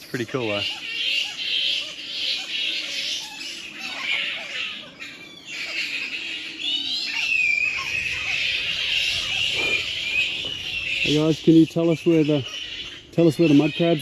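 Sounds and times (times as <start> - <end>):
fruit bats squawking: 0.0 - 14.0.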